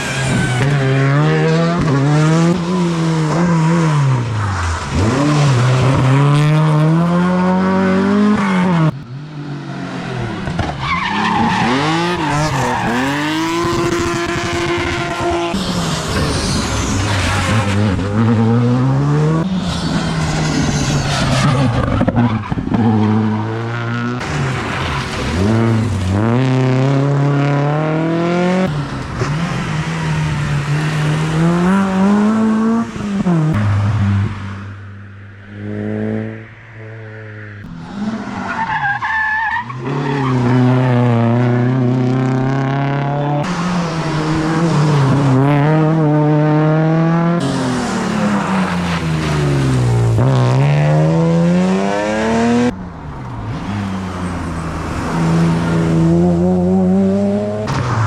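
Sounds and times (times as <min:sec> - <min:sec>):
rally car engines revving hard: 0:00.0 - 0:34.8, 0:35.4 - 0:58.0.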